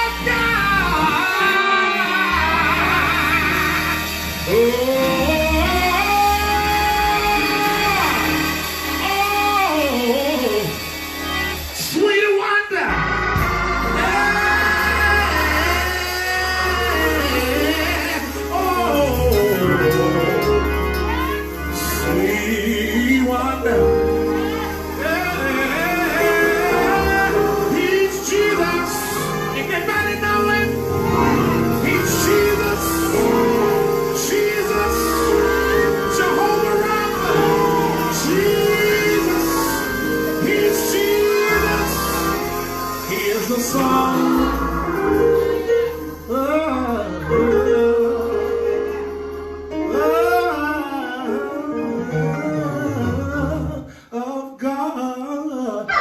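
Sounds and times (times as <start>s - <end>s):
band with bass and guitar: 0.0s - 54.0s
person singing wordless lines: 0.0s - 56.0s.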